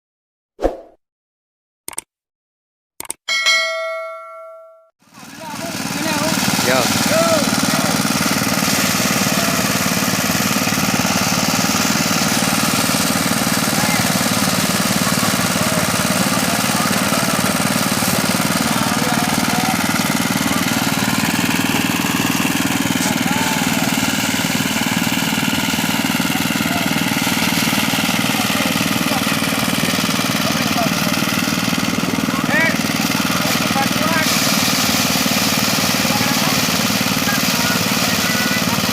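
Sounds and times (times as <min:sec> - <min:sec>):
rice thresher engine running: 0:05.0 - 0:38.9.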